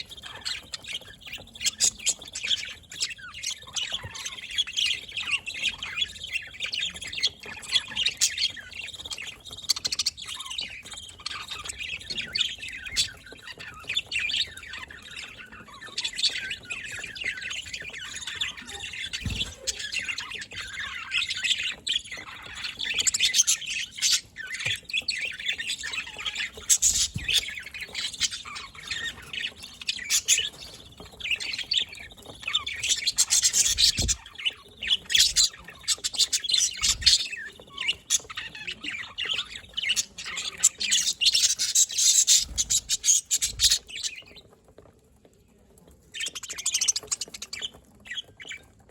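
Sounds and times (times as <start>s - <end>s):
budgerigars chirping: 0.0s - 44.6s, 46.1s - 48.8s.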